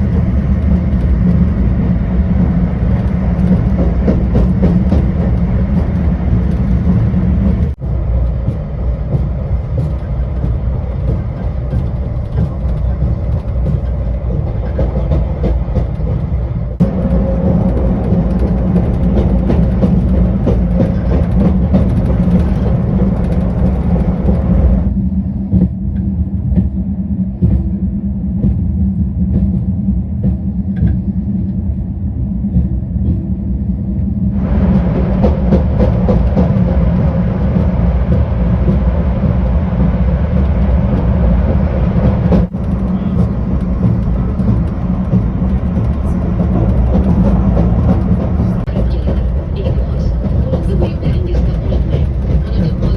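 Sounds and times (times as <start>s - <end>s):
high-speed train rumble and hiss: 0.0s - 52.9s.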